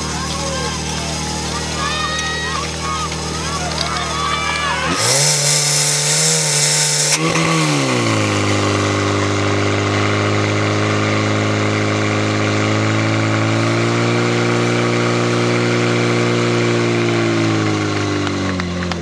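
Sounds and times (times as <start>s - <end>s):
pump engine running: 0.0s - 19.0s.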